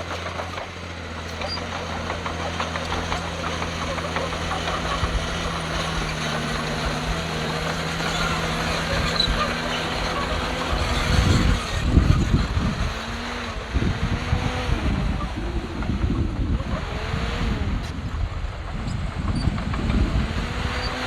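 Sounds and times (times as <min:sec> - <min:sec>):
heavy machinery diesel engine: 0:00.0 - 0:21.0
wind buffeting microphone: 0:01.8 - 0:21.0.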